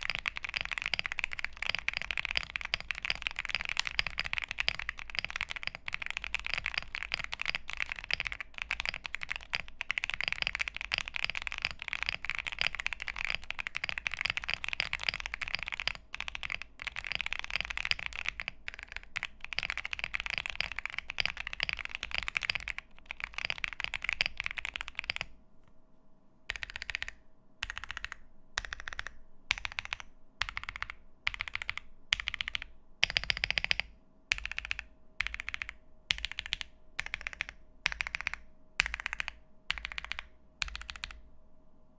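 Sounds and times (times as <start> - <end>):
mechanical keyboard typing: 0.0 - 25.3, 26.5 - 41.2.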